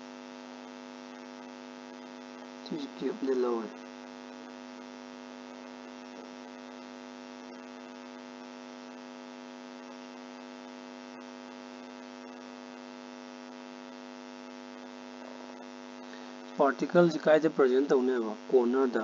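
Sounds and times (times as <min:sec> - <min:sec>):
buzzy electrical hum: 0:00.0 - 0:19.0.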